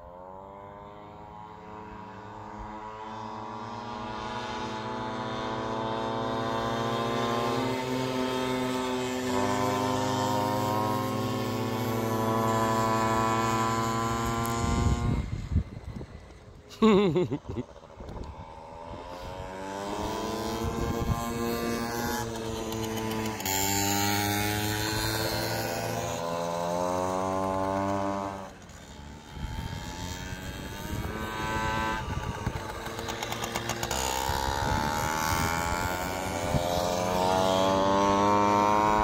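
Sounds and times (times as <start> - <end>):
small motorcycles revving: 0.0 - 39.0.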